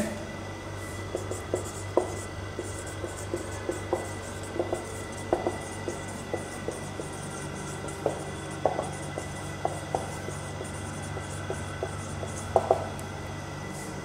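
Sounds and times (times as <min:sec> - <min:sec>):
low room hum: 0:00.0 - 0:14.0
marker writing on a whiteboard: 0:00.8 - 0:13.0.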